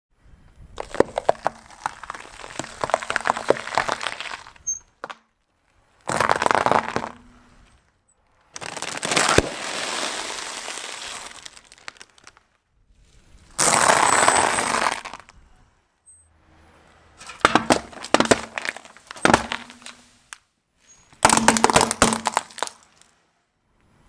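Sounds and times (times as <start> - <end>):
objects crunching under tyres: 0.5 - 15.6, 16.8 - 23.2.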